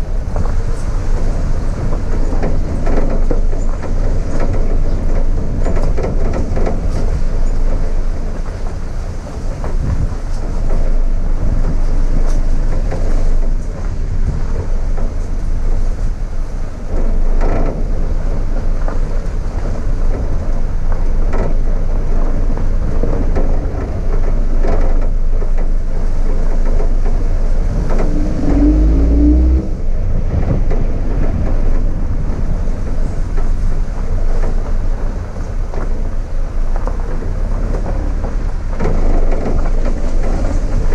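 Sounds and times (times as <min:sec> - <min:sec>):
vehicle engine low rumble: 0:00.0 - 0:40.9.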